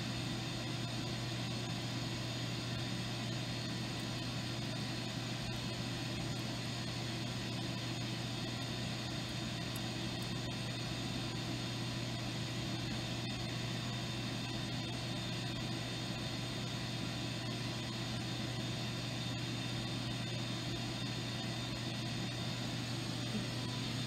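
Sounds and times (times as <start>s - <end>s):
measuring machine humming: 0.0s - 24.0s.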